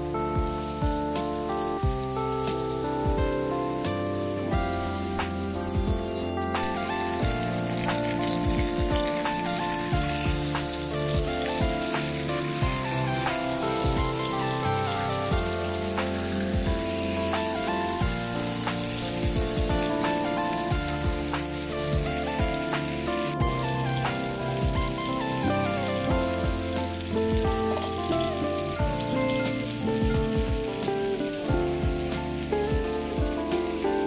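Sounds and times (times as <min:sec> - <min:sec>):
background music: 0:00.0 - 0:34.0
beef sizzling in hot oil: 0:00.0 - 0:34.0.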